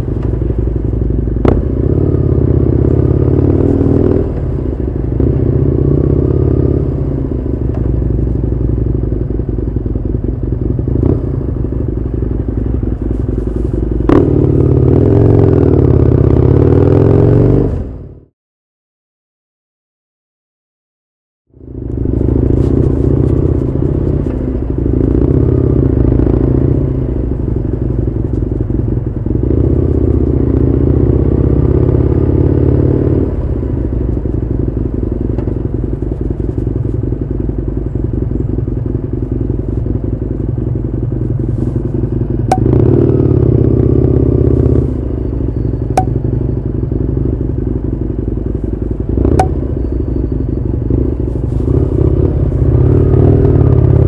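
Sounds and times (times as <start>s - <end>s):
motorcycle engine revving: 0.0s - 18.3s, 21.5s - 54.0s.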